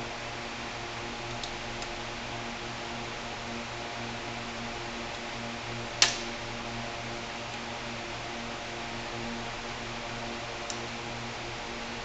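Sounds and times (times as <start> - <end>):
electrical hum with fan hiss: 0.0 - 12.0.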